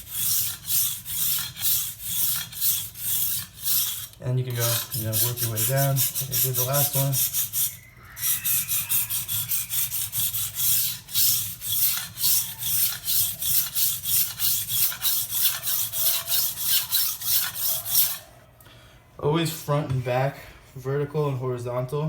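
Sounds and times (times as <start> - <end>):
knife scraping on whetstone: 0.0 - 18.3.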